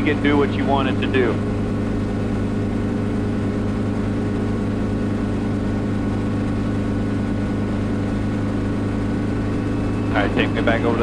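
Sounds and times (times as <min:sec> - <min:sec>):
helicopter engine and rotors: 0:00.0 - 0:11.0.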